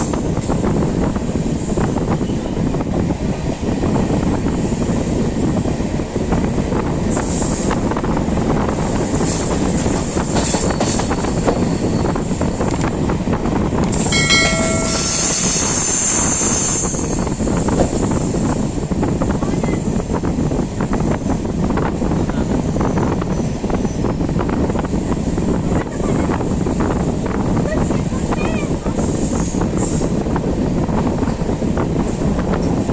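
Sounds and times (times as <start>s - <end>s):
train wheels rumbling on track: 0.0s - 32.9s.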